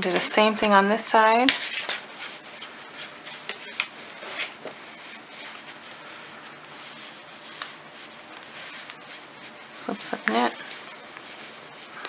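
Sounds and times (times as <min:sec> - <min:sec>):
yarn rubbing on needles: 0:02.0 - 0:12.0.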